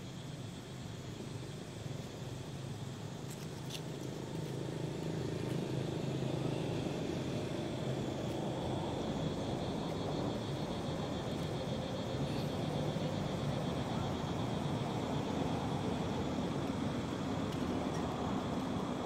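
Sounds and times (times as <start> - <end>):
faint high whine: 0.0 - 19.0
motor traffic rumble: 1.1 - 19.0.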